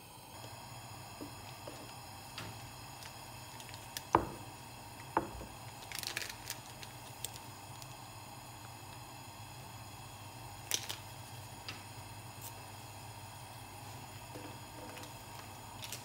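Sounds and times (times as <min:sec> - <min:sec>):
gas burner hissing: 0:00.0 - 0:16.0.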